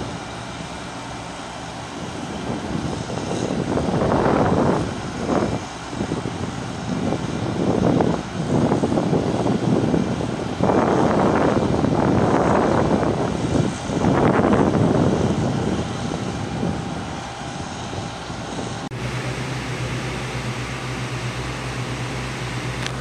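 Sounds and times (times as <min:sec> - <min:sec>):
loud rushing engine drone: 0:00.0 - 0:23.0
low pulsing engine hum: 0:00.0 - 0:23.0.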